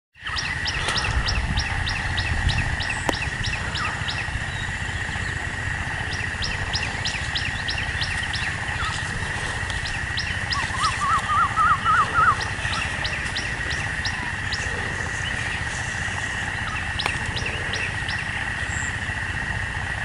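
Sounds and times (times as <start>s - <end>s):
bird high chirps: 0.2s - 19.2s
steady high drone: 0.2s - 20.0s
low rumble: 0.3s - 20.0s.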